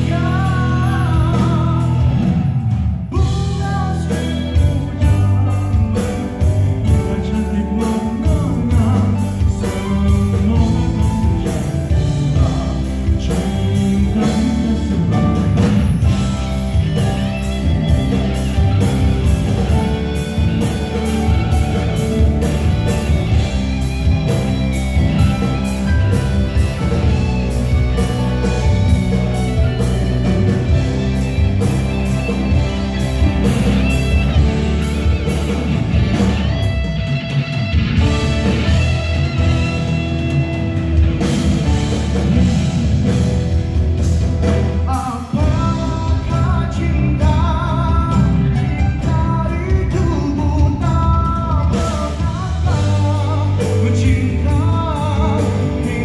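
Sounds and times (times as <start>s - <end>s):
person singing: 0.0s - 36.6s, 44.7s - 56.0s
drums: 0.0s - 56.0s
electric guitar: 0.0s - 56.0s.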